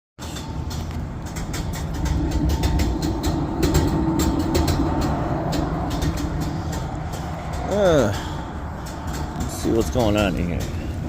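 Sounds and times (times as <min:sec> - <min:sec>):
hvac unit rumbling: 0:00.2 - 0:11.0
steady mechanical whine: 0:00.2 - 0:11.0
rattling knocks: 0:00.3 - 0:11.0.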